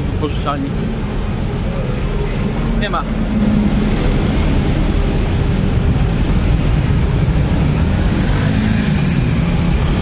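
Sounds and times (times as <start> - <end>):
bus engine running: 0.0 - 10.0
scooters and cars: 0.0 - 10.0.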